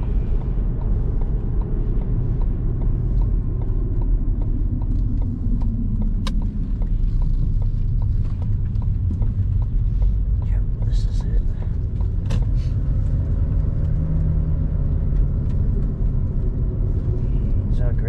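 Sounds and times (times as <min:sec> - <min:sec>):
car engine and tyres rumbling: 0:00.0 - 0:18.0
light ticks and clicks: 0:00.0 - 0:18.0.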